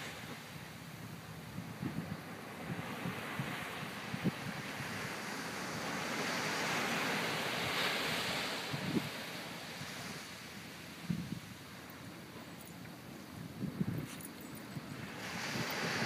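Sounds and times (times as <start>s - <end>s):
small waves washing on sand: 0.0s - 16.0s
wind on microphone: 1.4s - 16.0s.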